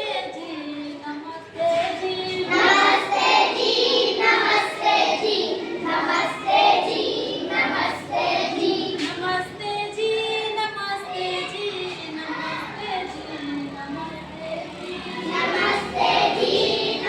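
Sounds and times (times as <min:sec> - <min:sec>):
child singing: 0:00.0 - 0:17.0.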